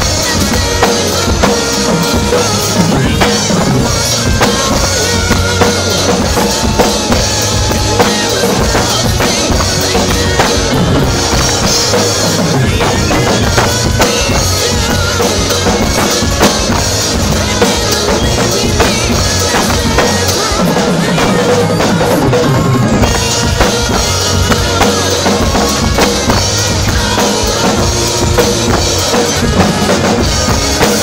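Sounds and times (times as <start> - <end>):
rock drum kit playing: 0.0 - 31.0.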